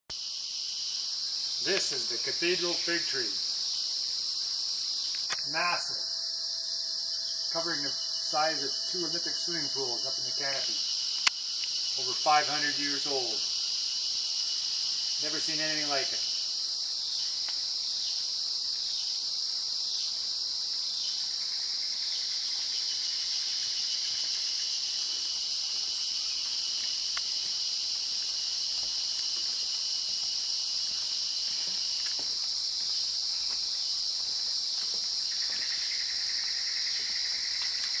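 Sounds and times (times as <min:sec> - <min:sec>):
insects buzzing trill: 0:00.1 - 0:38.0
low pulsing insect call: 0:00.1 - 0:38.0.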